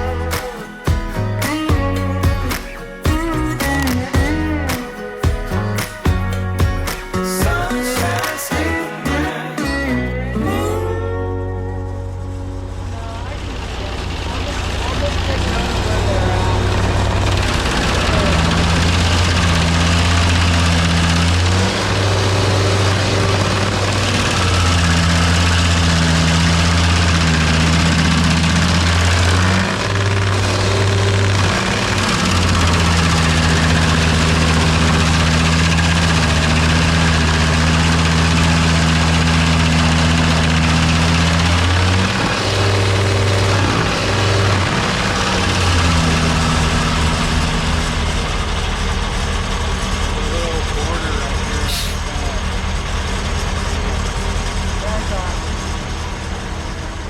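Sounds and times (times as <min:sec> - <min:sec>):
large engine running: 0:00.0 - 0:57.0.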